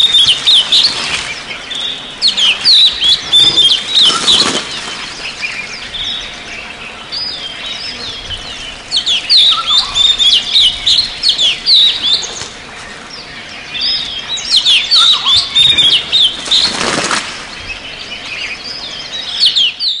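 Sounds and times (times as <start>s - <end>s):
forest birds singing: 0.0s - 20.0s.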